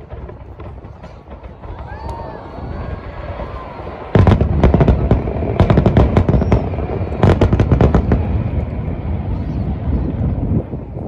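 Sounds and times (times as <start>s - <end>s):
fireworks cracking and banging: 0.0s - 11.0s
low rumble: 0.0s - 11.0s.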